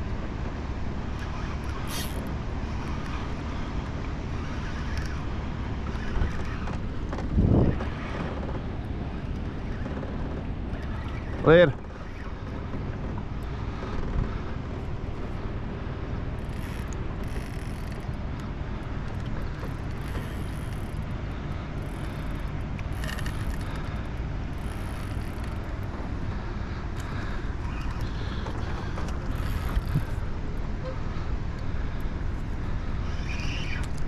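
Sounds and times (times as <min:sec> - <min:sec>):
outboard motor running: 0:00.0 - 0:34.0
wind buffeting microphone: 0:02.3 - 0:17.4, 0:18.0 - 0:34.0.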